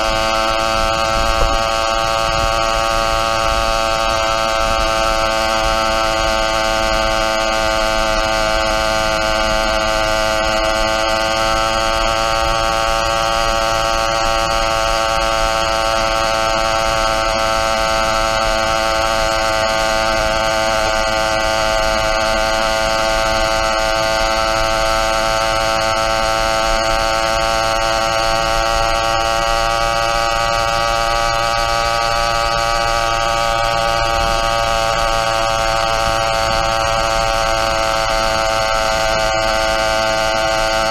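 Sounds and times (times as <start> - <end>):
two-stroke engine high buzz: 0.0 - 40.9.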